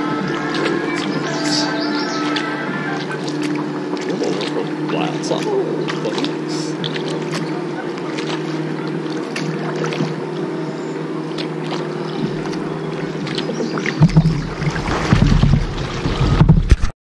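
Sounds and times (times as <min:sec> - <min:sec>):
motorboat engine humming: 0:00.0 - 0:16.9
wind buffeting microphone: 0:00.0 - 0:16.9.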